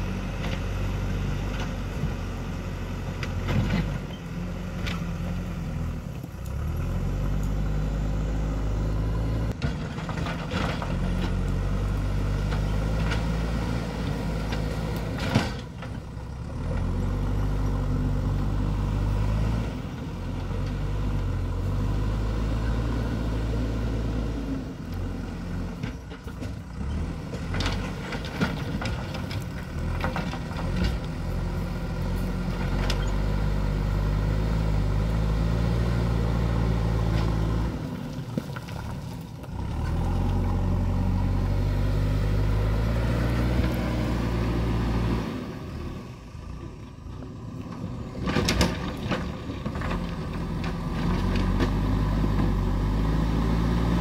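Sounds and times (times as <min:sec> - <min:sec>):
backhoe diesel engine under load: 0:00.0 - 0:54.0.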